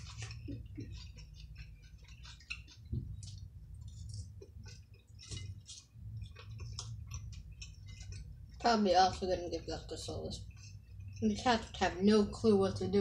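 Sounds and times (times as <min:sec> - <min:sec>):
person chewing: 0:00.0 - 0:11.8.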